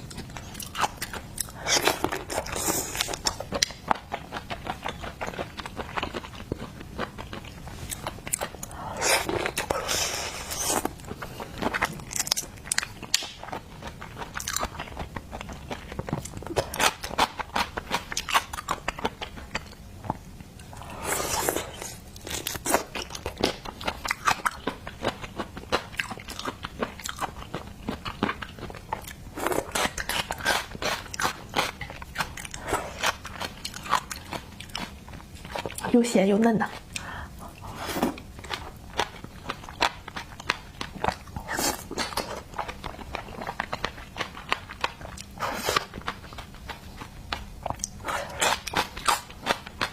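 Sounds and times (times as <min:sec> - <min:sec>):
wet chewing and crunching: 0:00.0 - 0:36.0, 0:36.6 - 0:49.9.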